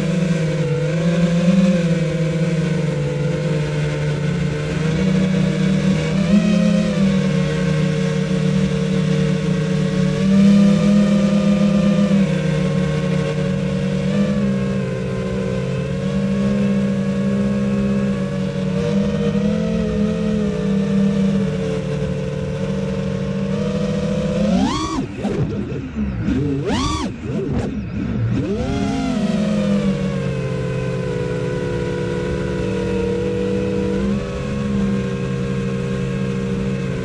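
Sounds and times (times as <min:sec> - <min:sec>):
quadcopter motors whining: 0:00.0 - 0:37.0.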